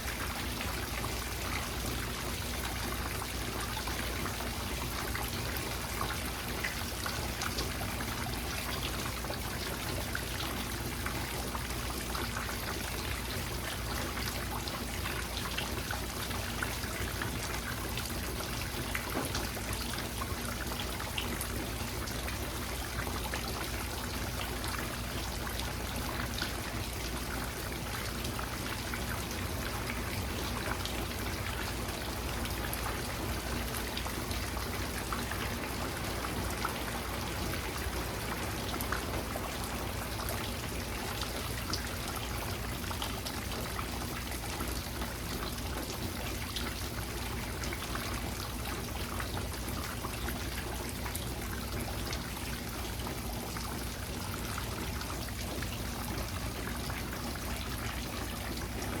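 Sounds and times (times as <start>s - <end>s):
rain pattering: 0.0s - 56.6s
water trickling: 0.0s - 59.0s.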